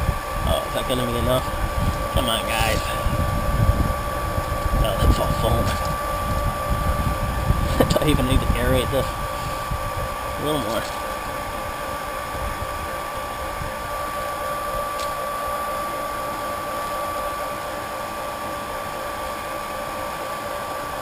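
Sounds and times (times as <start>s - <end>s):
electric pump whining: 0.0s - 21.0s.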